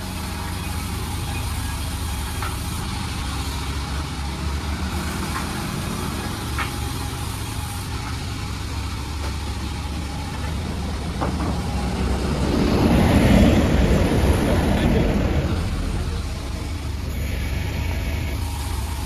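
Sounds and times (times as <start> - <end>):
sawmill humming: 0.0 - 19.0.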